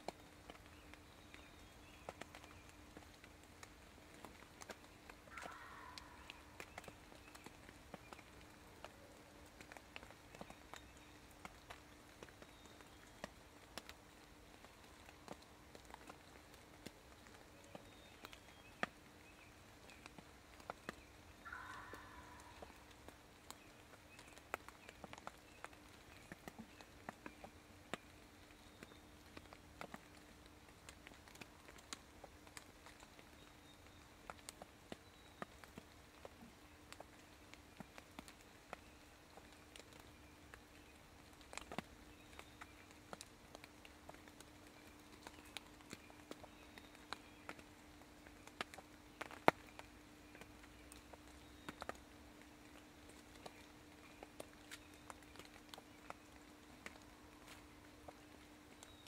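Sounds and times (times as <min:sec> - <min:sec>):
faint ticks and crackles: 0:00.0 - 0:59.0.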